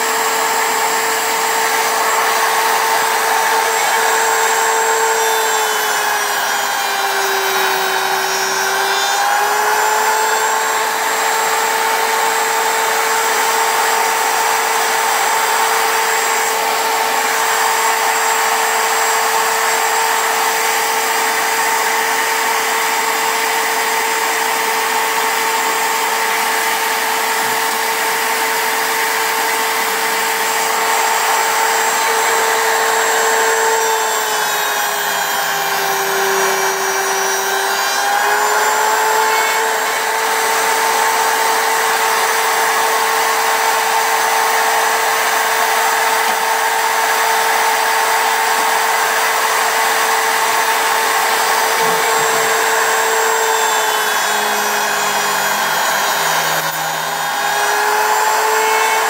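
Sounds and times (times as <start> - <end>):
wood router whining: 0.0 - 59.0.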